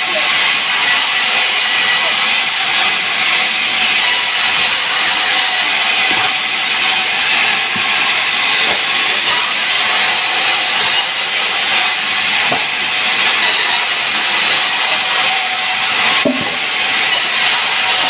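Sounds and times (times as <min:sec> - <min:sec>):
saw blade cutting wood: 0:00.0 - 0:18.0.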